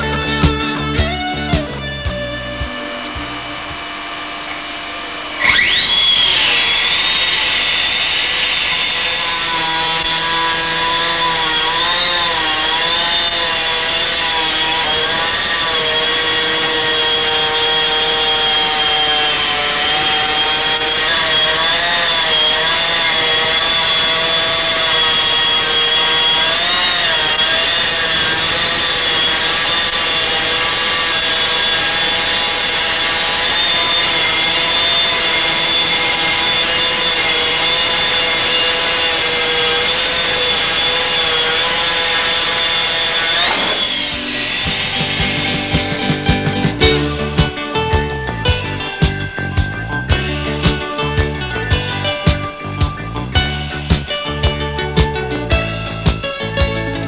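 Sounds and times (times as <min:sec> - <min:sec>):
stone-cutting machine grinding: 0:00.0 - 0:57.0.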